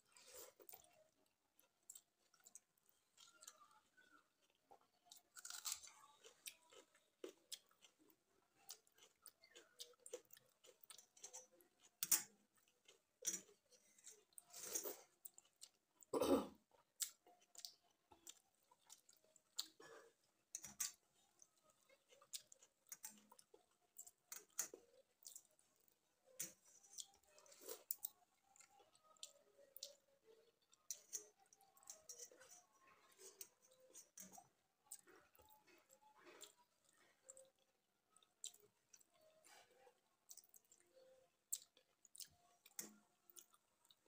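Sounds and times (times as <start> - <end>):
person chewing wet rice: 0.1 - 44.0.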